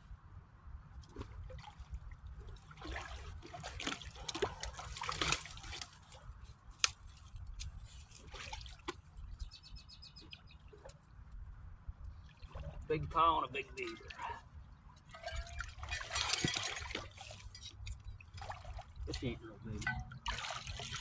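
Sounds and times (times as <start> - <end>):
water splashing and sloshing: 0.8 - 21.0.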